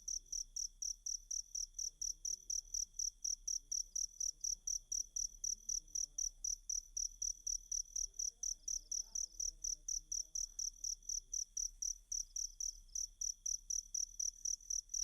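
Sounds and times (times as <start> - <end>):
field cricket chirping: 0.0 - 15.0.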